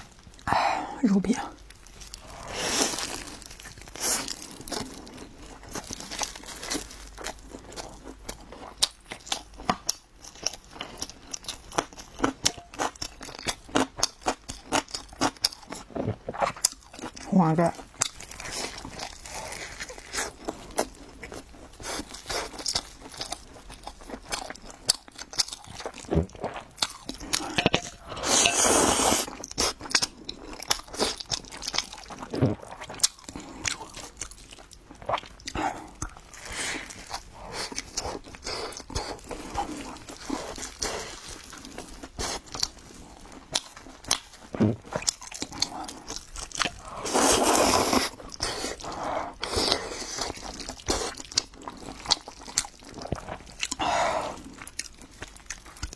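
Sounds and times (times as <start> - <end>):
person chewing crunchy food: 0.0 - 0.5, 1.6 - 55.9.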